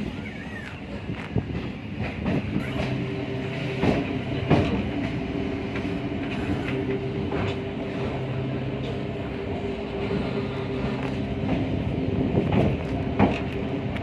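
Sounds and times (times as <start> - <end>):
train low hum: 0.0 - 14.0
train wheels clicking over rail joints: 0.0 - 14.0.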